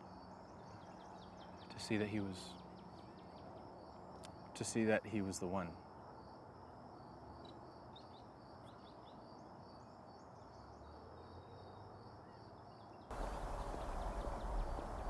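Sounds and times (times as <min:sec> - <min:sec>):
background noise: 0:00.0 - 0:15.0
crickets chirping: 0:00.0 - 0:15.0.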